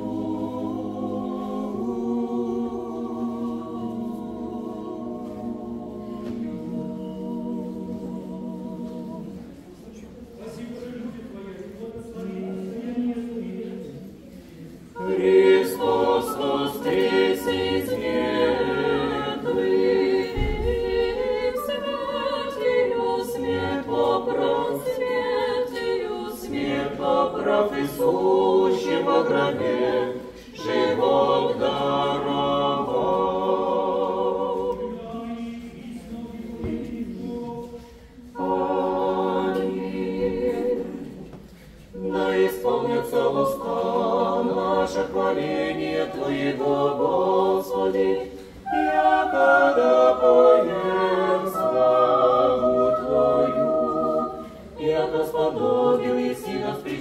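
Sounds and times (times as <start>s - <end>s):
choir singing unaccompanied chant: 0.0s - 57.0s.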